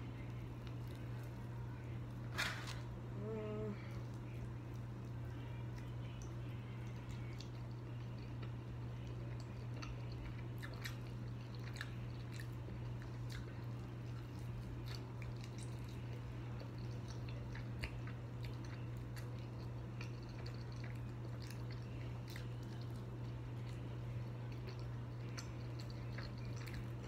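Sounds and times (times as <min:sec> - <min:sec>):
chewing and crunching: 0:00.0 - 0:03.0, 0:03.6 - 0:27.0
steady low hum: 0:00.0 - 0:27.0.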